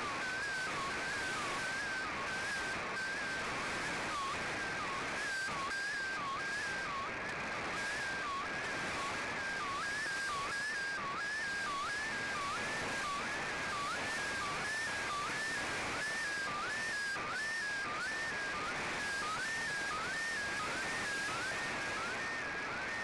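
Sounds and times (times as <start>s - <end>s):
radio signal hiss: 0.0s - 23.0s.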